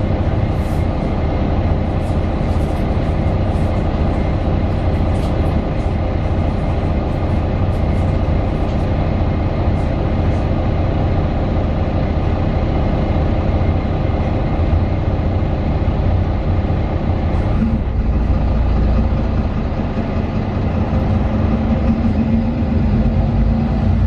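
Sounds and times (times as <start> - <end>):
bus diesel engine running: 0.0 - 24.0
road and tyre noise: 0.0 - 24.0.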